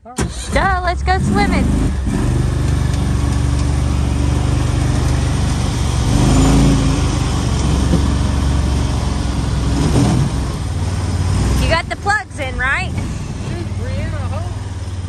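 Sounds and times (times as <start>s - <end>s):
atv engine running: 0.4s - 15.0s.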